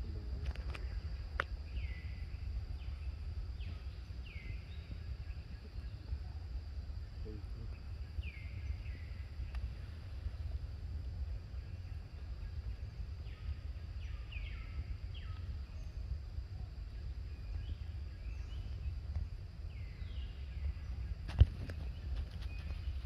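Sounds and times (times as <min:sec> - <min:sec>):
low steady rumble: 0:00.0 - 0:23.0.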